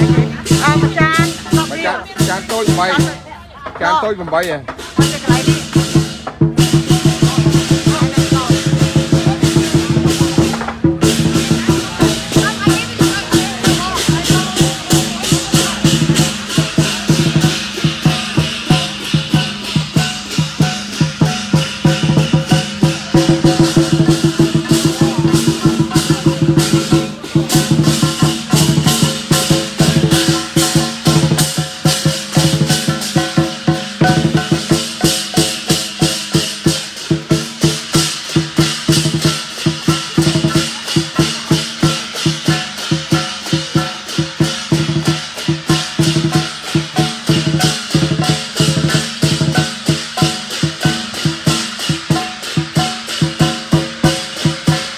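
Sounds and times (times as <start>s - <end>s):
drum and cymbals beat: 0.0s - 54.9s.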